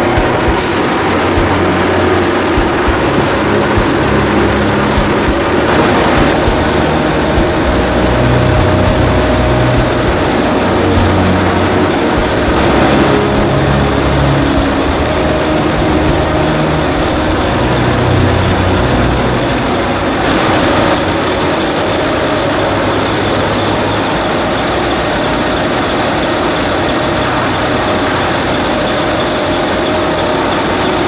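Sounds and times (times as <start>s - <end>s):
extraction fan air rush: 0.0s - 31.0s
low hum: 0.0s - 31.0s.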